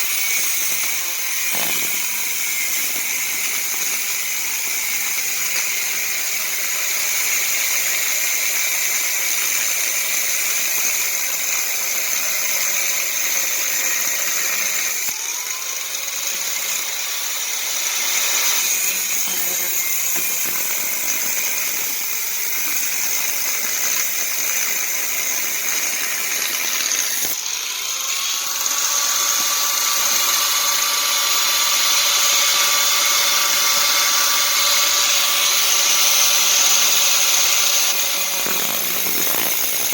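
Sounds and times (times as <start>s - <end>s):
power tool grinding steel: 0.0s - 39.9s.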